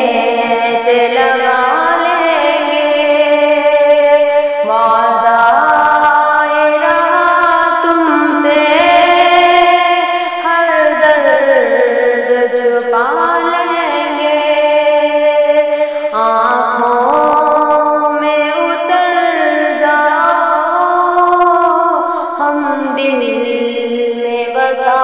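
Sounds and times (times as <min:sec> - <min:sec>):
woman singing long sliding notes: 0:00.0 - 0:25.0.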